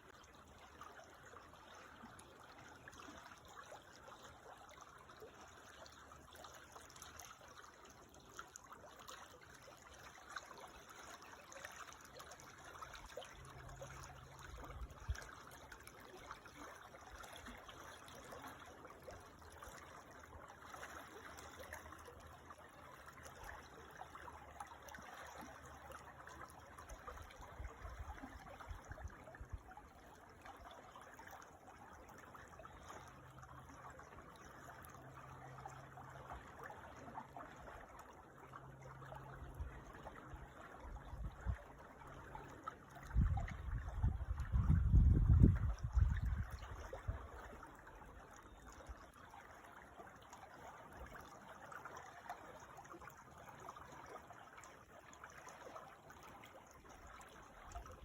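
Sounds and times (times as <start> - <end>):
creek trickling: 0.0 - 58.0.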